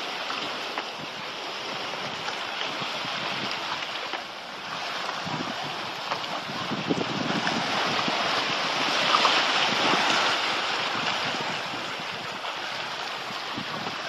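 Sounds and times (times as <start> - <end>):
surf washing over rocks: 0.0 - 14.0
wind on microphone: 0.0 - 14.0.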